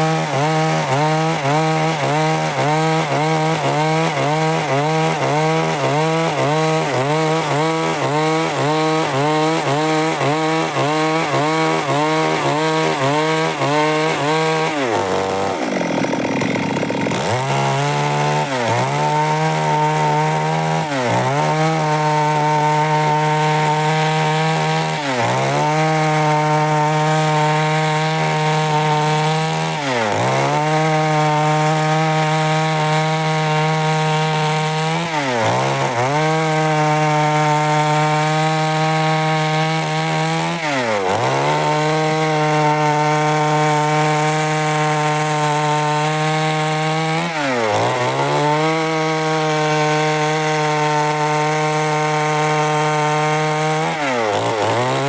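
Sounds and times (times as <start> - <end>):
chainsaw sawing wood: 0.0 - 55.0.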